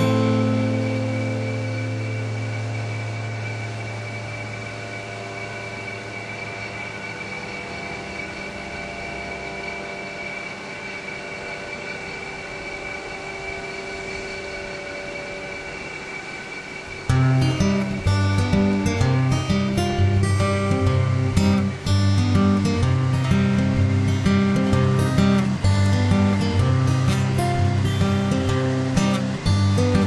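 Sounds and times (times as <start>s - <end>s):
engine running steadily: 0.0s - 30.0s
low hum: 0.0s - 30.0s.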